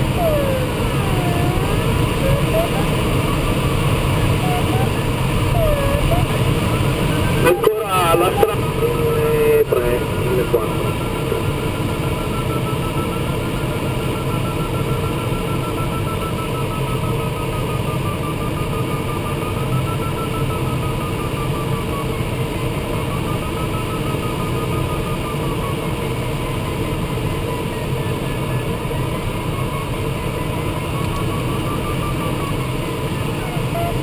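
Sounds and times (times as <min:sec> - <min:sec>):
variometer beeping rapidly: 0:00.0 - 0:34.0.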